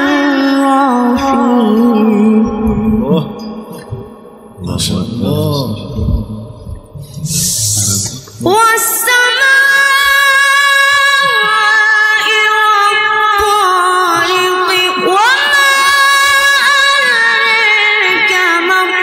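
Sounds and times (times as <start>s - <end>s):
person reciting melodically: 0.0s - 19.0s.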